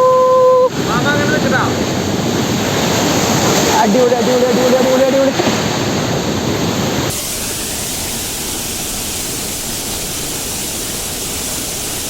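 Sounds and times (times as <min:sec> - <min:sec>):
small waterfall rushing: 0:00.7 - 0:12.0.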